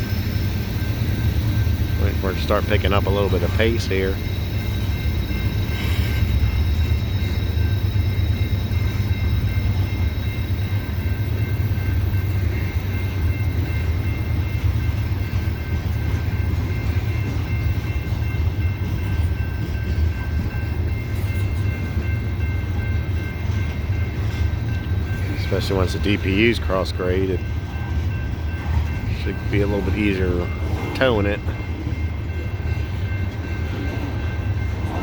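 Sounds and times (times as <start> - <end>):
diesel locomotives rumbling: 0.0 - 35.0.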